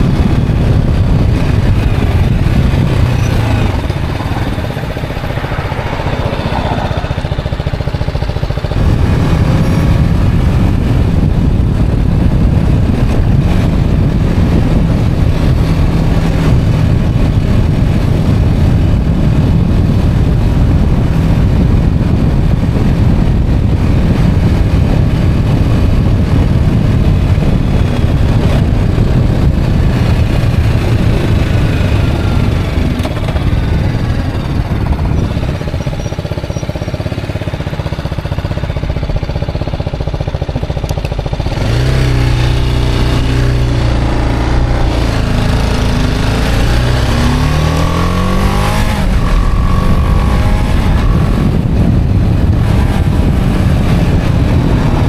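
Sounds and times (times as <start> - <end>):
motorcycle engine rumble: 0.0 - 55.0
wind noise on microphone: 0.0 - 55.0.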